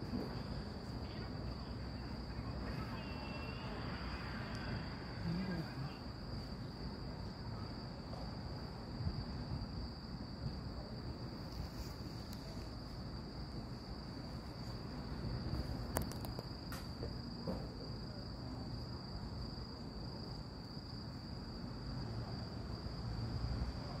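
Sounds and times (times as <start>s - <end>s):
crickets trilling: 0.0s - 24.0s
distant traffic rumble: 0.0s - 24.0s.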